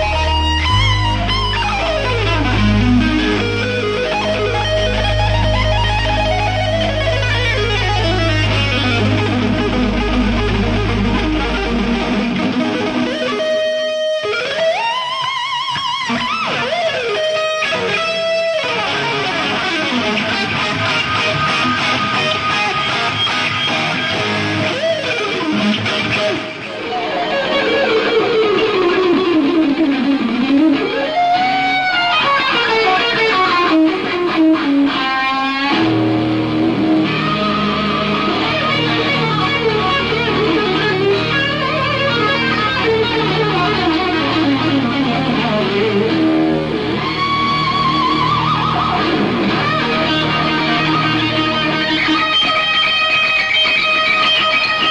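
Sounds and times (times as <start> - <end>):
electric guitar solo: 0.0 - 54.9.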